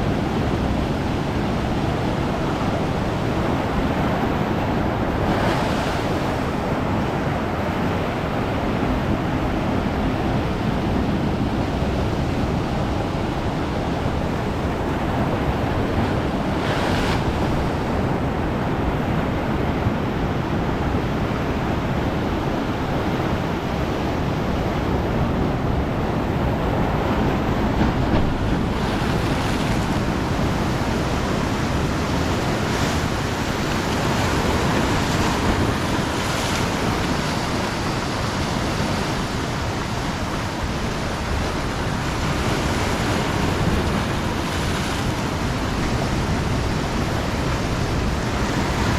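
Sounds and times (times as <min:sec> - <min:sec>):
ocean waves breaking on beach: 0:00.0 - 0:48.9.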